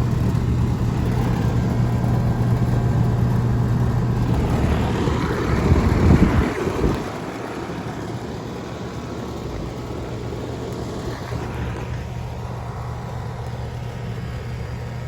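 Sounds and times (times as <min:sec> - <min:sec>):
compressor humming: 0:00.0 - 0:15.0
fan air rushing: 0:00.0 - 0:15.0.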